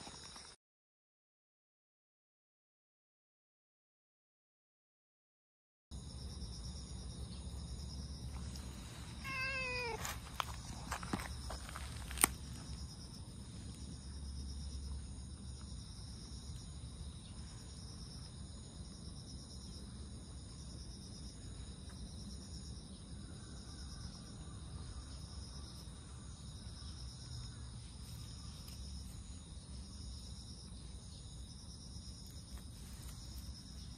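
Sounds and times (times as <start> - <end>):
crickets and insects chirping: 0.0 - 0.6, 5.9 - 33.9.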